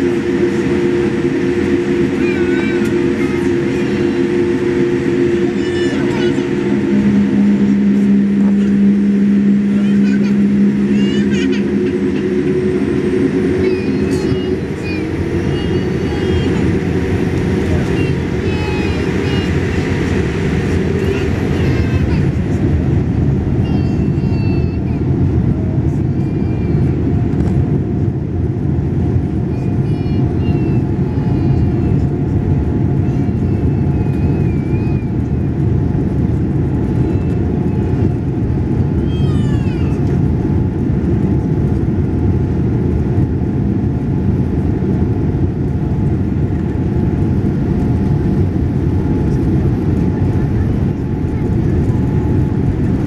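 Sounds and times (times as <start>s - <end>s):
airplane cabin engine rumble: 0.0s - 53.0s
faint steady whine: 0.0s - 53.0s.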